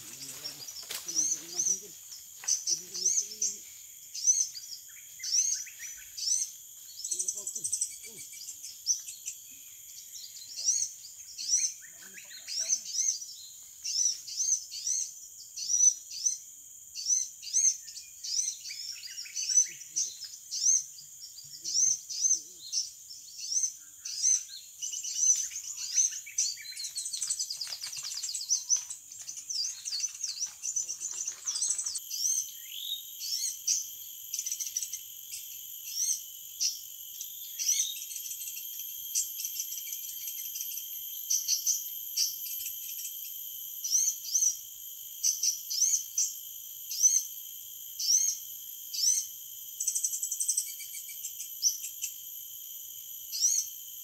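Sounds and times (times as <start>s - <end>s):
high insect drone: 0.0s - 54.0s
small birds chirping: 0.0s - 54.0s.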